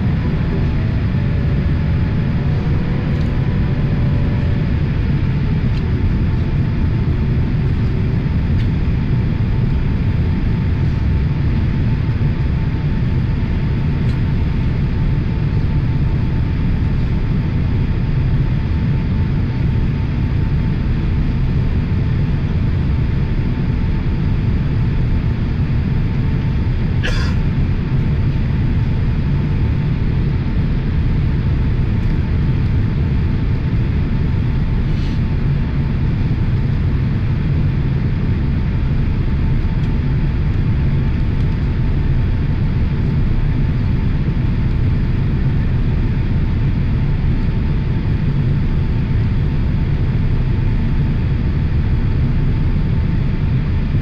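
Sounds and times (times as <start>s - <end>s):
faint steady whine: 0.0s - 54.0s
jet engine cabin rumble: 0.0s - 54.0s.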